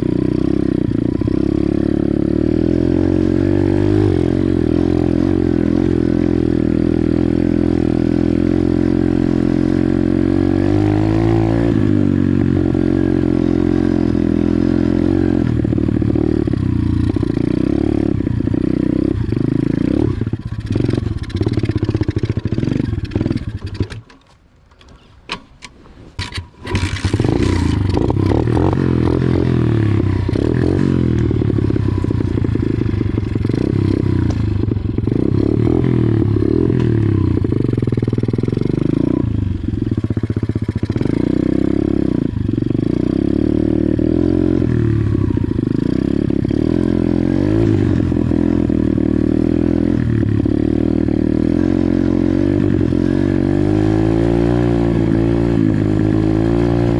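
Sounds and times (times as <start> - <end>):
pit bike engine revving: 0.0 - 24.2, 26.2 - 56.9.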